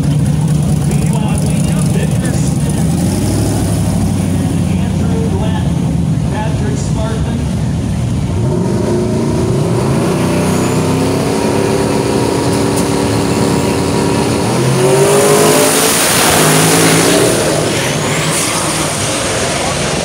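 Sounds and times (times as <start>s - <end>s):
drag racing engines revving: 0.0s - 20.0s.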